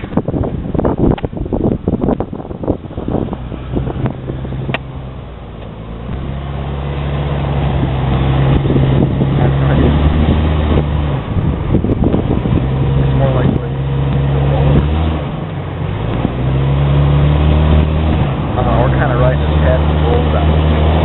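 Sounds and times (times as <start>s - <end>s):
engine working under load: 0.0s - 21.0s
wind buffeting microphone: 0.0s - 21.0s.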